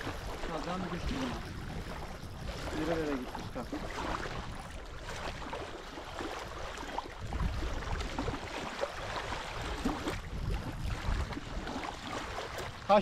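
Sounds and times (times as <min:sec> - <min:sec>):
small knocks and splashes: 0:00.0 - 0:13.0
water lapping at shore: 0:00.0 - 0:13.0
wind rumbling on microphone: 0:00.0 - 0:13.0.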